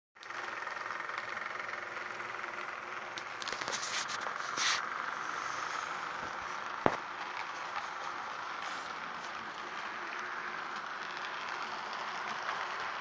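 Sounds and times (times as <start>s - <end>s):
model train motor whirring: 0.2s - 13.0s
wheels clicking over rail joints: 0.2s - 13.0s.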